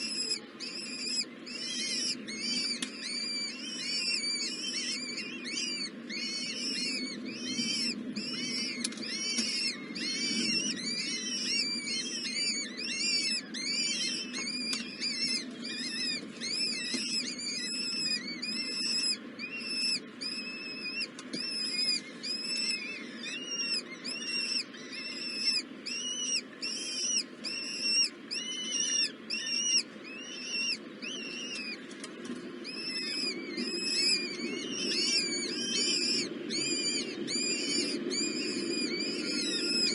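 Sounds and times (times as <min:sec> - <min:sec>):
baby birds chirping: 0:00.0 - 0:39.9.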